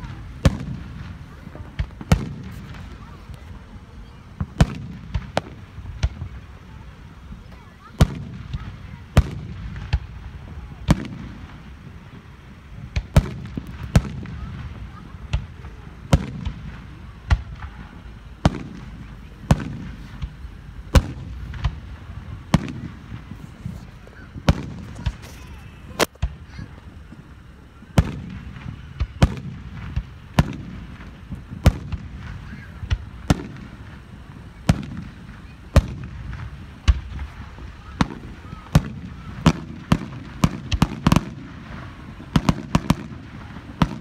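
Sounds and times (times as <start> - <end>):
firework shells bursting: 0.0 - 44.0.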